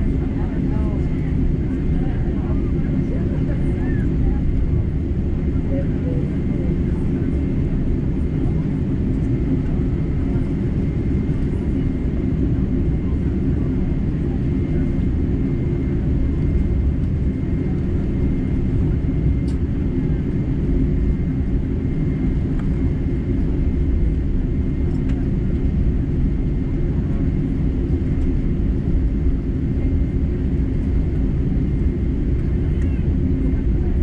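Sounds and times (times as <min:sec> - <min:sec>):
low engine rumble in cabin: 0:00.0 - 0:34.0.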